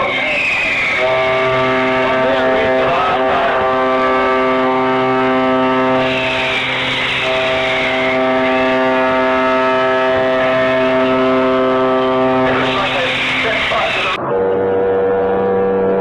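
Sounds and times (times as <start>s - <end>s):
ship's whistle blast: 0.0s - 14.2s
rushing noise with falling tone: 0.0s - 16.0s.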